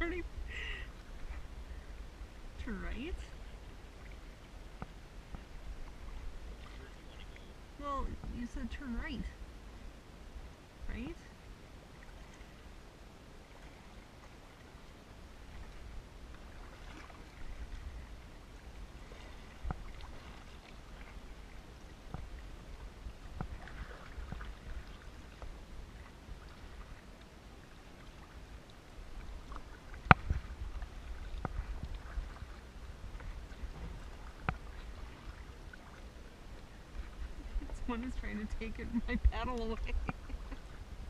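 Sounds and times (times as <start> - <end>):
paddle splashing water: 0.0 - 10.5, 11.3 - 41.0.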